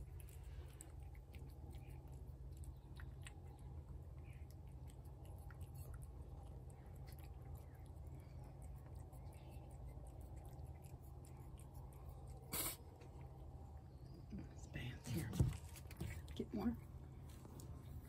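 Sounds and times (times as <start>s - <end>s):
cat chewing food: 0.0s - 18.0s
steady low hum: 0.0s - 18.0s.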